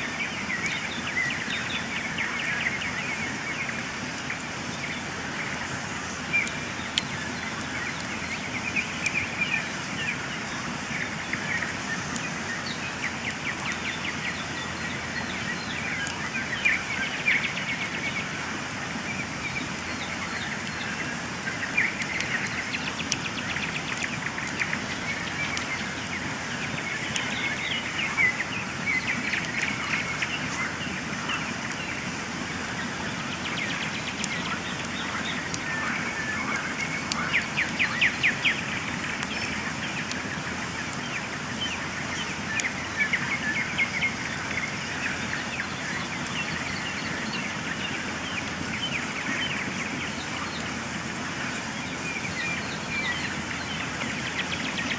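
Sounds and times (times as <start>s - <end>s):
campfire crackling and popping: 0.0s - 54.9s
small birds chirping: 0.0s - 54.9s
steady hiss: 0.0s - 54.9s.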